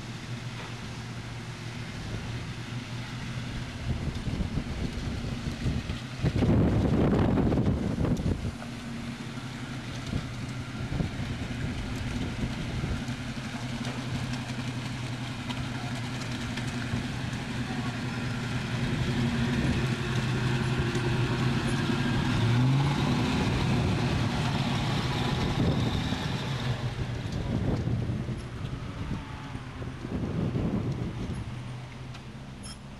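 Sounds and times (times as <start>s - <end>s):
truck engine driving over rough ground: 0.0s - 32.9s.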